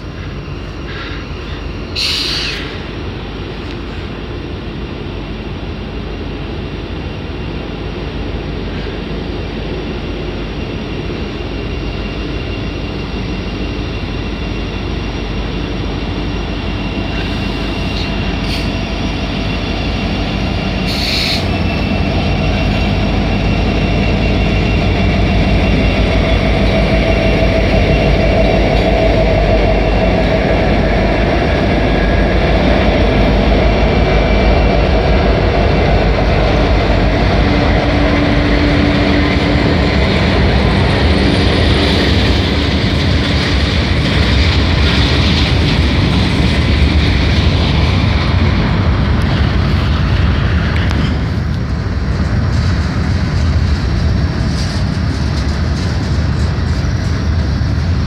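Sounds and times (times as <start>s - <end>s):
diesel locomotives passing: 0.0s - 58.0s
train wheels rumbling on rails: 0.0s - 58.0s.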